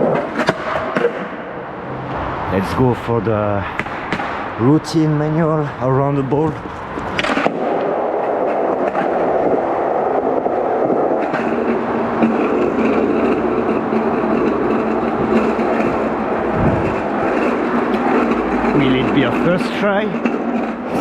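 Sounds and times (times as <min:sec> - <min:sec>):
skateboard wheels rolling on concrete: 0:00.0 - 0:21.0.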